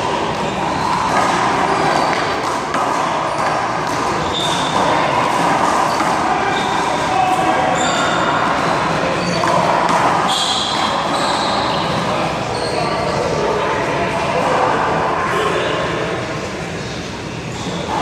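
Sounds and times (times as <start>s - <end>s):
voice: 0.0s - 17.0s.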